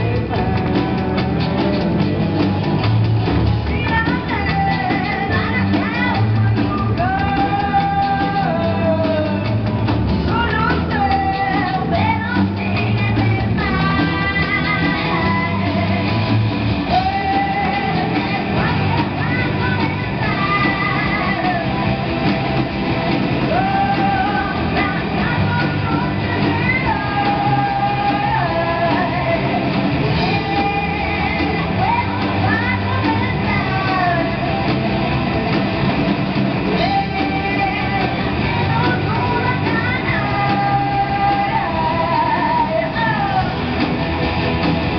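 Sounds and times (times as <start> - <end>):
woman singing: 0.0 - 2.0, 3.5 - 35.4, 36.3 - 44.1
drum kit: 0.0 - 44.9
electric bass: 0.0 - 44.9
electric guitars: 0.0 - 44.9.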